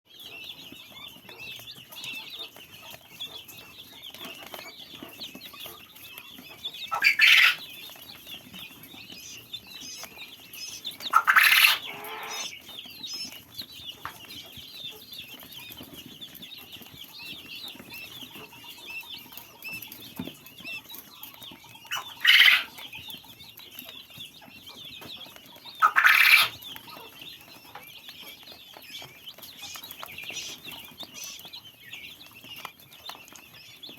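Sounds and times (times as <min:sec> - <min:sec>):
baby birds peeping: 0:00.1 - 0:33.9.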